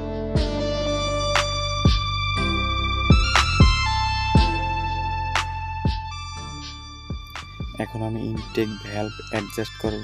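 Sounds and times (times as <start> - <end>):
steady bass line: 0.0 - 10.0.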